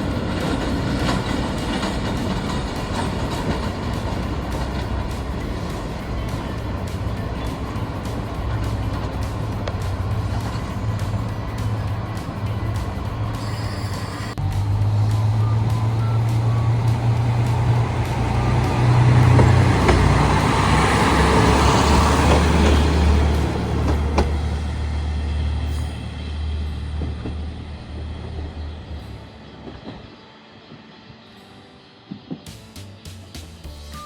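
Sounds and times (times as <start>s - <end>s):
vehicle engine passing: 0.0s - 13.7s, 14.3s - 29.2s.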